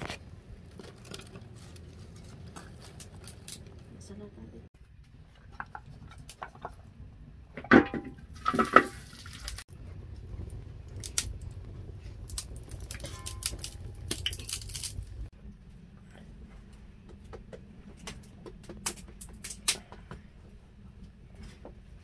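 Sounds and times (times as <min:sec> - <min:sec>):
wood fire crackling: 0:00.0 - 0:04.2, 0:05.0 - 0:22.0.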